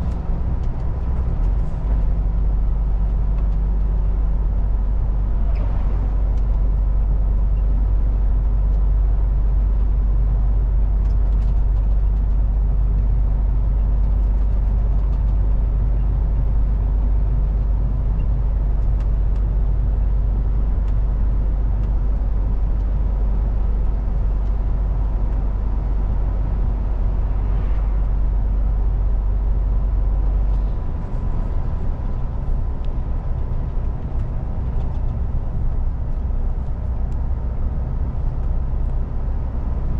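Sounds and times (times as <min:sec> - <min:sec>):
truck diesel engine droning: 0:00.0 - 0:39.9
tyre and road noise: 0:00.0 - 0:39.9.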